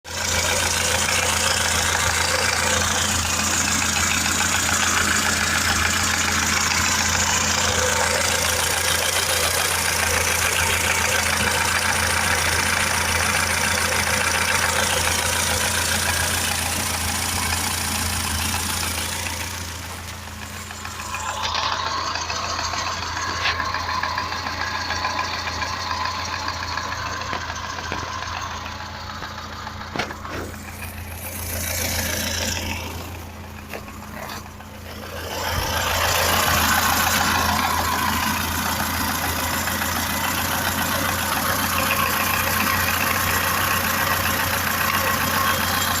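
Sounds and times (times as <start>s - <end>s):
vehicle engine knocking: 0.0s - 46.0s.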